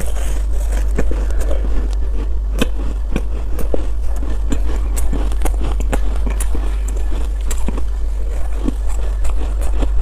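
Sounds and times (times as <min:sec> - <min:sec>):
crunching and chewing ice: 0:00.0 - 0:10.0
steady low hum: 0:00.0 - 0:10.0.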